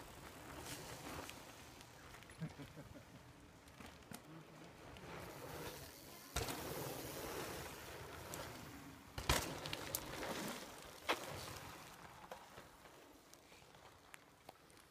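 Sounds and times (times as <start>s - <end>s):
bike tyres on dirt trail: 0.0s - 14.9s
bikes knocking and rattling: 0.0s - 14.9s.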